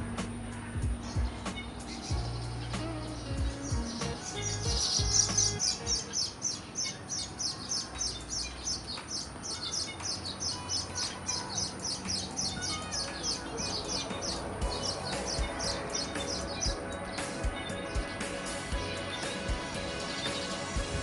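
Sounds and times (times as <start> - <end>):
bird chirping rapidly: 0.0 - 21.0.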